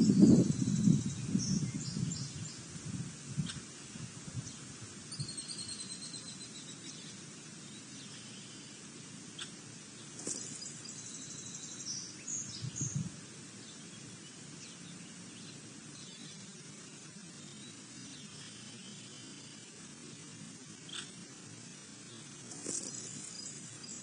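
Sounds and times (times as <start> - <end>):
songbird trills: 0.0 - 2.7, 4.4 - 24.0.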